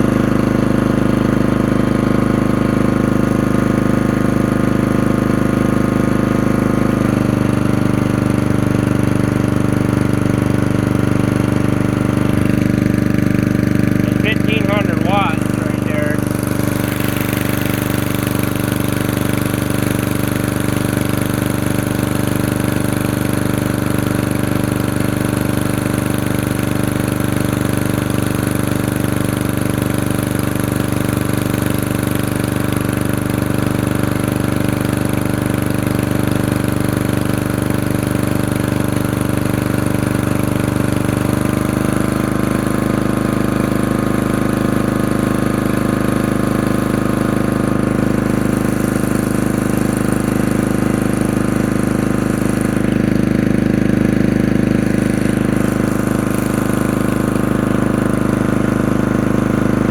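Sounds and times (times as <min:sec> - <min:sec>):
generator engine running: 0:00.0 - 0:59.9.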